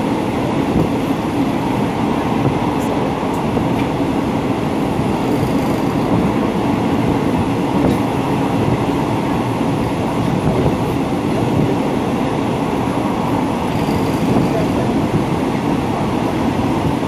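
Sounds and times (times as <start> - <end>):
train wheels on rails rumbling: 0.0 - 17.0.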